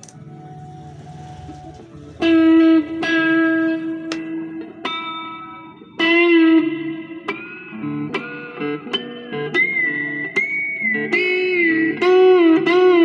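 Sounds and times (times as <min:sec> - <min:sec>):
electric guitar lead lines: 0:00.0 - 0:13.0.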